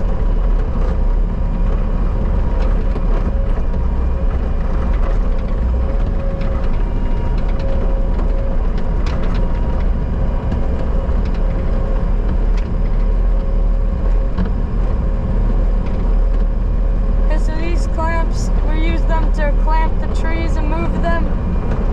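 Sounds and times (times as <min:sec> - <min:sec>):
skid steer engine rumbling: 0:00.0 - 0:21.9.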